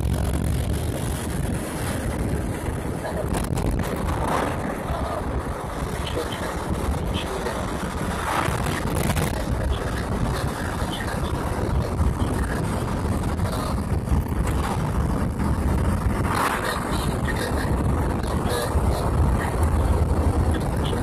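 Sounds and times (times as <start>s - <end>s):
car engine: 0.0s - 21.0s
tyre noise on road: 0.0s - 21.0s.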